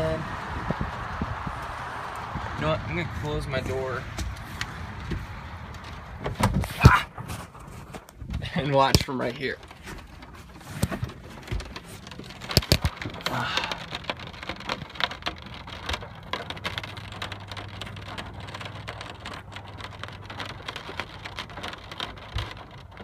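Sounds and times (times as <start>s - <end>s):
heavy rain on car roof: 0.0s - 23.0s.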